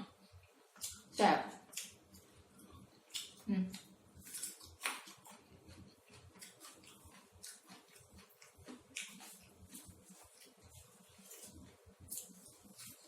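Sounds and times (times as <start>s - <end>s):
person chewing food: 1.7s - 13.0s.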